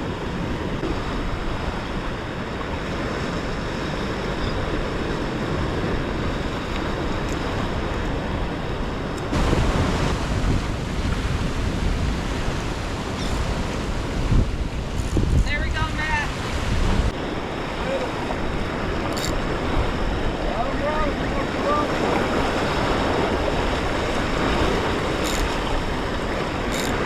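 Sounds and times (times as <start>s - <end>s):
ocean surf washing: 0.0s - 27.0s
wind buffeting microphone: 0.0s - 27.0s.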